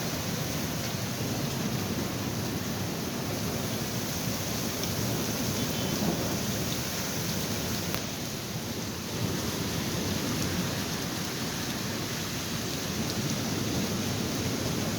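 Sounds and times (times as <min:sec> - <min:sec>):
heavy rain downpour: 0:00.0 - 0:14.9.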